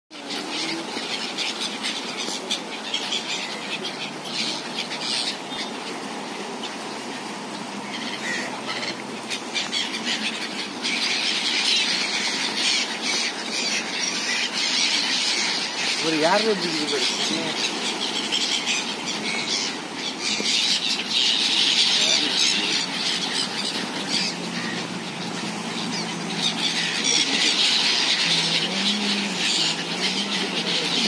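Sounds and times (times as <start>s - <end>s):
gulls calling: 0.1s - 31.0s.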